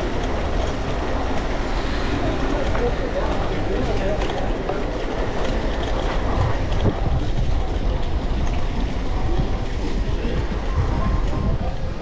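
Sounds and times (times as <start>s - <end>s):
bicycle rumbling over road: 0.0s - 12.0s.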